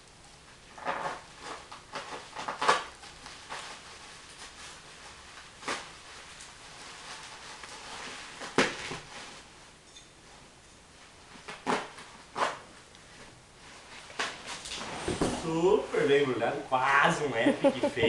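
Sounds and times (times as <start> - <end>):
plastic wrap rustling and crackling: 0.1 - 9.7, 10.9 - 18.0.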